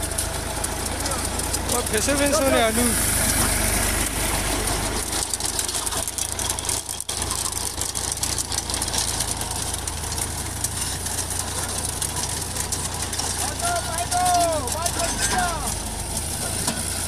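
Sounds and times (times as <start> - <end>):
digger clattering clicks: 0.0 - 17.0
tractor engine running: 0.0 - 17.0.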